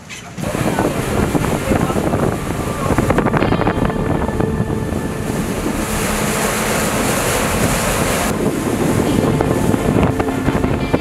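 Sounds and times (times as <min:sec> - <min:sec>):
boat motor running: 0:00.0 - 0:11.0
water splashing against hull: 0:00.0 - 0:11.0
wind buffeting microphone: 0:00.0 - 0:11.0.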